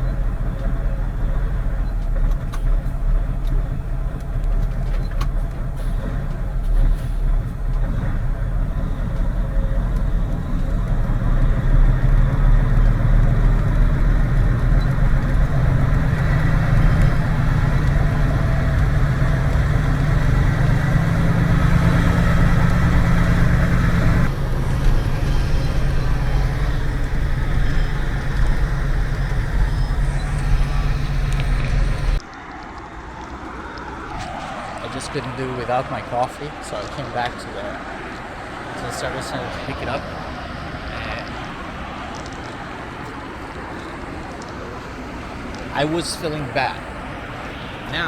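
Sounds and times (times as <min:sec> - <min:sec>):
truck engine running: 0:00.0 - 0:48.0.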